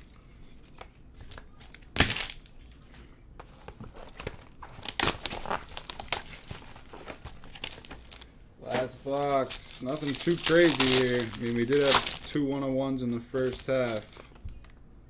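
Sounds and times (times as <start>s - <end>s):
plastic wrapping crinkling and tearing: 0.6s - 14.6s.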